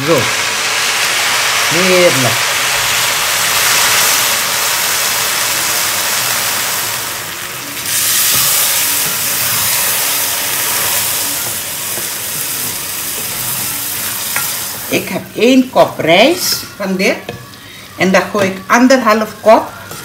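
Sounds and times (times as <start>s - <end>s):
pot hissing and sizzling: 0.0s - 20.0s.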